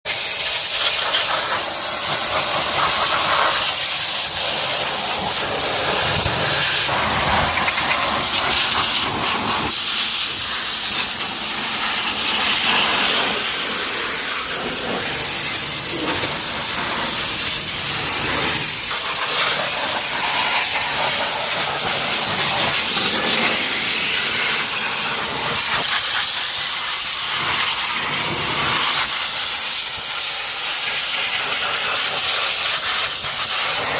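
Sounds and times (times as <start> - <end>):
high-pressure water spray hissing: 0.1 - 33.9.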